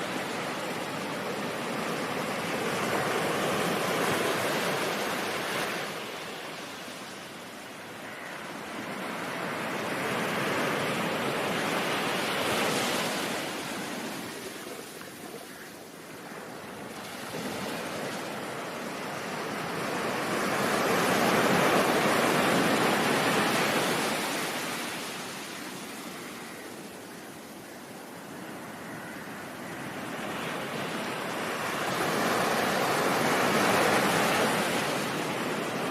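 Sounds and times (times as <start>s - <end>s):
ocean waves breaking: 0.0s - 26.9s, 29.0s - 35.9s.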